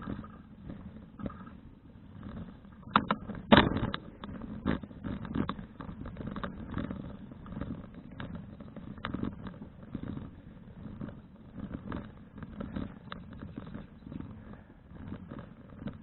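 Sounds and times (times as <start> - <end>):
folding bicycle rattling: 0.0 - 16.0
steady low rumble: 0.0 - 16.0.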